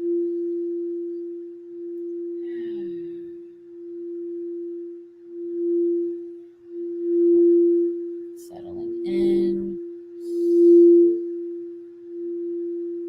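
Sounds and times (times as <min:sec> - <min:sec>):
singing bowl tone: 0:00.0 - 0:13.0.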